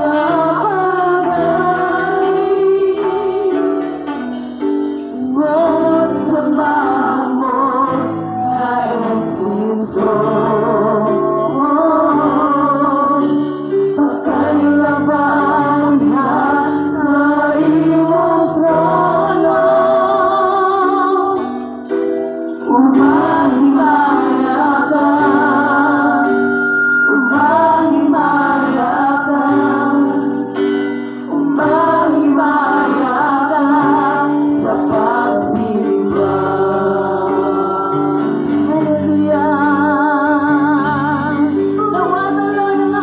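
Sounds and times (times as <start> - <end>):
instrumental accompaniment: 0.0 - 43.0
person singing worship song: 0.0 - 43.0.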